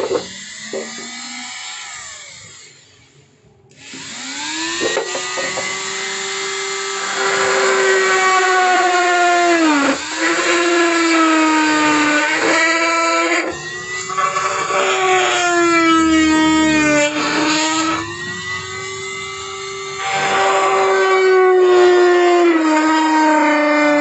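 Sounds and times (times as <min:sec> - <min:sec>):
rotary tool motor whine: 0:00.0 - 0:23.7
rotary tool drilling plastic: 0:00.0 - 0:24.0.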